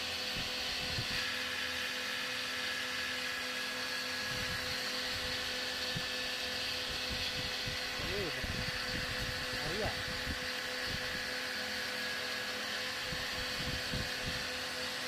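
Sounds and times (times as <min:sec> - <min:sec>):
cotton candy machine motor whine: 0:00.0 - 0:15.0.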